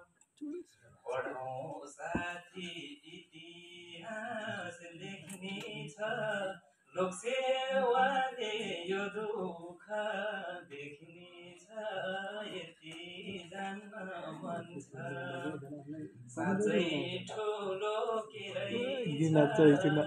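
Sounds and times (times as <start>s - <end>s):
man singing a cappella: 1.1s - 20.0s.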